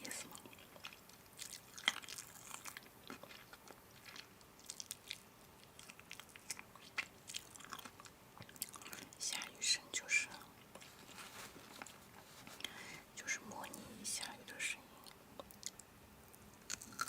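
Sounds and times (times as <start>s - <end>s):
person chewing food: 0.0s - 9.6s, 10.2s - 12.8s, 13.6s - 17.0s.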